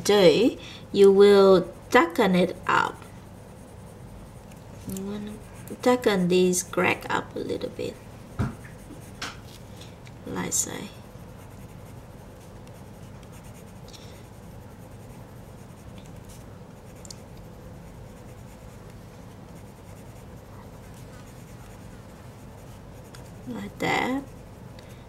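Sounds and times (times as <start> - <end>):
pencil scratching on paper: 1.0 - 9.6, 10.3 - 24.5.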